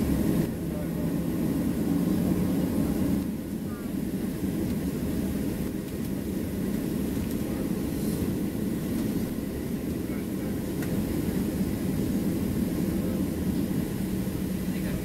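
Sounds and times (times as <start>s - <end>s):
aircraft cabin low rumble: 0.0s - 15.0s.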